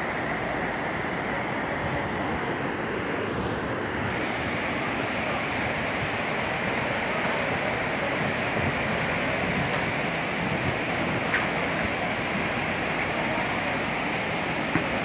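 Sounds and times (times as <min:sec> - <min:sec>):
river torrent rushing: 0:00.0 - 0:15.0.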